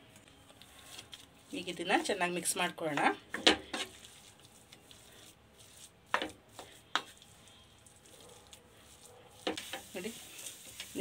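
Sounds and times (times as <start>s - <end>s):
wooden spatula stirring in a pan: 0.6s - 11.0s.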